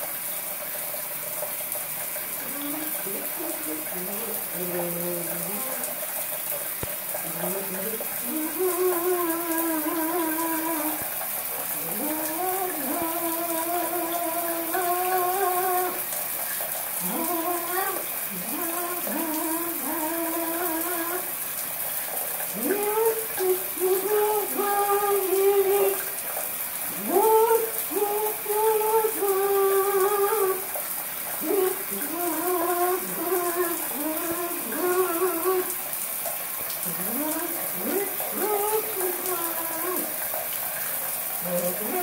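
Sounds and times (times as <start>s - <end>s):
shower water running: 0.0s - 42.0s.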